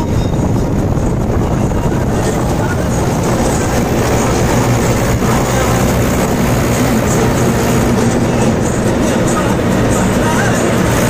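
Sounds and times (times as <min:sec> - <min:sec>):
tractor diesel engine running: 0:00.0 - 0:11.0
tyre and road noise: 0:00.0 - 0:11.0.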